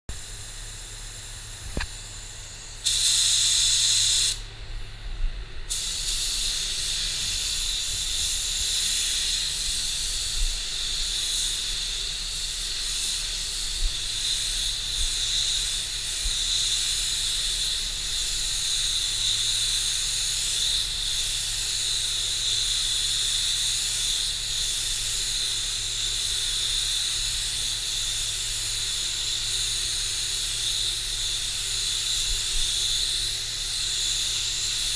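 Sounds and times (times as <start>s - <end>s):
loud blast of air: 0.1s - 4.5s, 5.7s - 34.9s
spray gun hissing: 0.1s - 4.5s, 5.7s - 34.9s.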